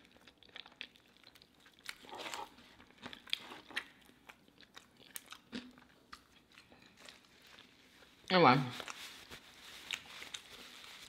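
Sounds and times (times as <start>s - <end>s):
chewing crunchy food: 0.0s - 11.0s.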